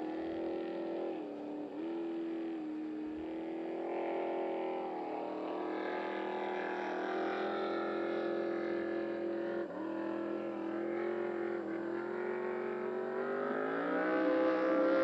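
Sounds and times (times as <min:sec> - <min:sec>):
powerboat engine running: 0:00.0 - 0:15.0.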